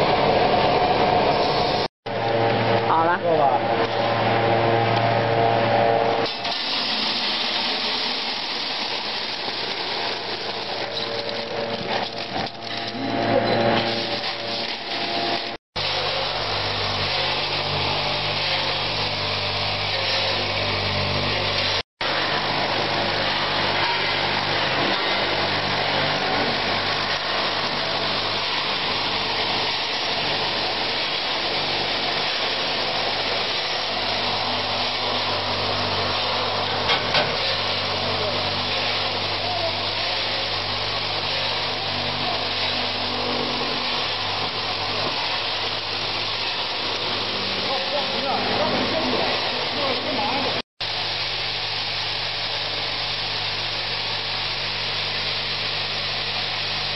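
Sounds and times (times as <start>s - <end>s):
roaster humming: 0.0s - 56.9s.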